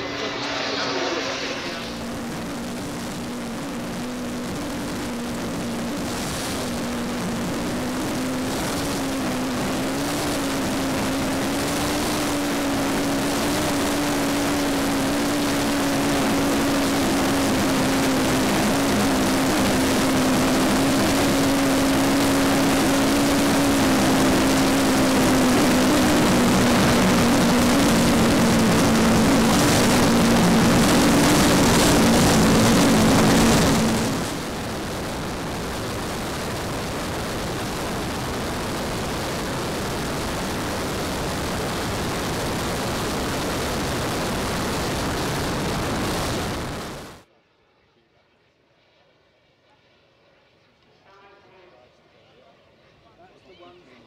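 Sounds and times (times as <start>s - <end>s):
jet turbine noise and airflow: 0.0s - 47.2s.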